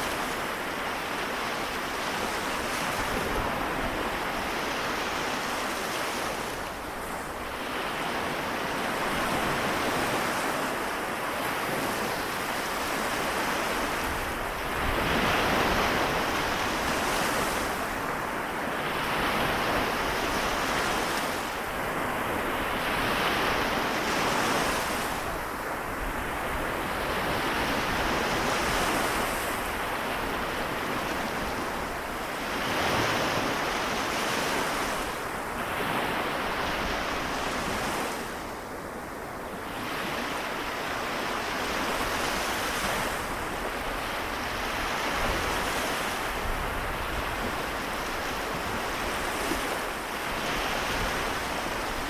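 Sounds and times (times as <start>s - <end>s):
small waves washing onto shore: 0.0s - 52.0s
wind rumble on microphone: 0.0s - 52.0s.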